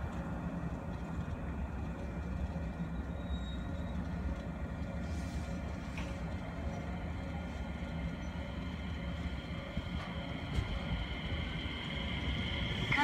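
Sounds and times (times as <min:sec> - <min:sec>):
electric train rumbling: 0:00.0 - 0:13.0
humming tones from running gear: 0:00.0 - 0:13.0.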